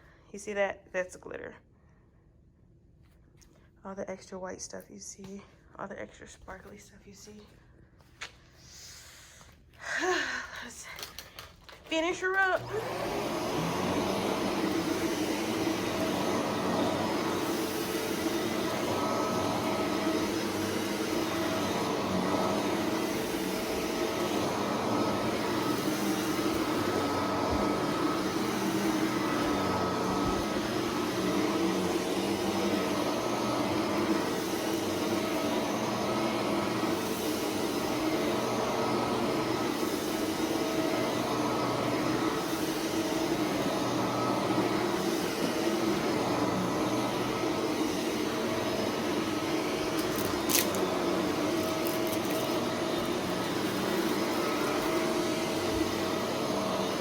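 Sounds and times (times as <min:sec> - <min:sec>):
vacuum cleaner running: 0:03.9 - 0:57.0.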